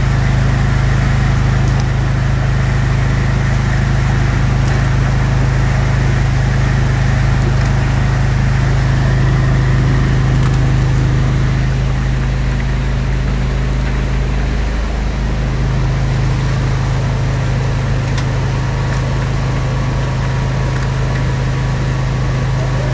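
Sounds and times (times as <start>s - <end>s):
low machine hum: 0.0s - 22.9s
rushing wastewater: 0.0s - 22.9s.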